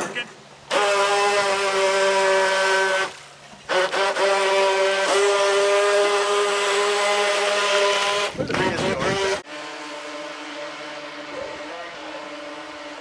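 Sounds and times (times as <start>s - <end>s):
model boat motor whining: 0.6s - 13.0s.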